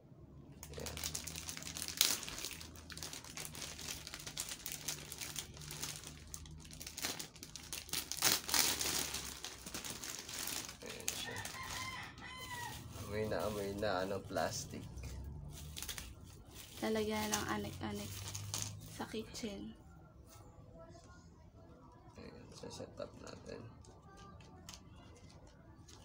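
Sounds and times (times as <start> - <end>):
plastic shrink wrap crinkling: 0.6 - 19.2, 23.2 - 26.0.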